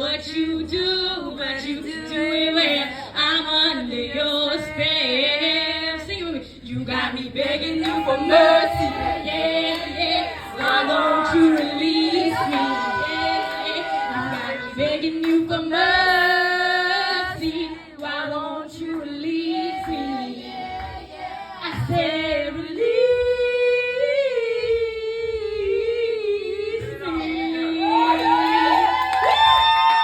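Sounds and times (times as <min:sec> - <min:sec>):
woman singing unaccompanied: 0:00.0 - 0:29.0.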